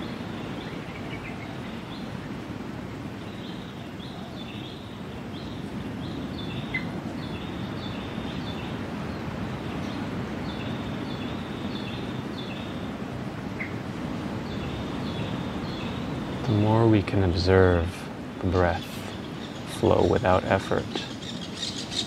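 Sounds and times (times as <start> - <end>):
low rushing background noise: 0.0 - 22.0.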